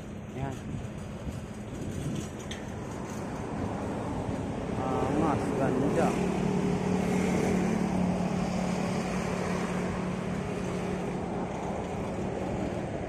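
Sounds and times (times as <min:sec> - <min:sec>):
motor vehicle engine hum: 0:00.0 - 0:13.0
wind and road rush: 0:00.0 - 0:13.0.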